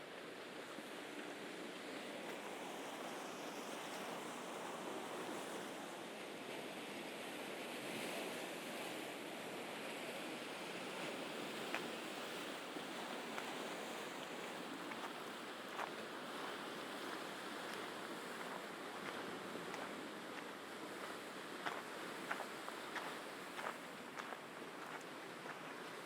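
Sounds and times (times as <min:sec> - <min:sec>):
sea waves washing on shore: 0:00.0 - 0:26.0.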